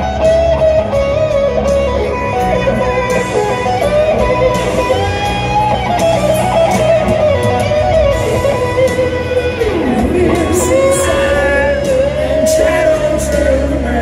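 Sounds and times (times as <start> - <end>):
electric guitar solo: 0.0 - 14.0
live rock band: 0.0 - 14.0.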